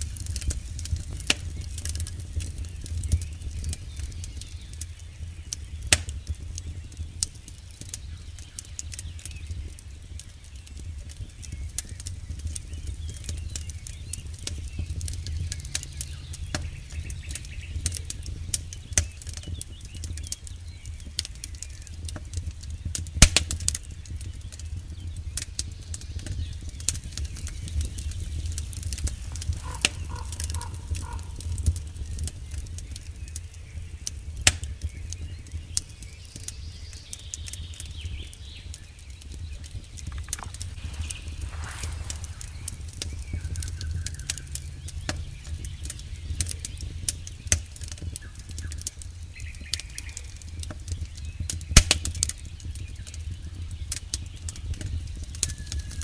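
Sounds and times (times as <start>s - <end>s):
flames rumbling: 0.0s - 56.0s
wood crackling and popping: 0.0s - 56.0s.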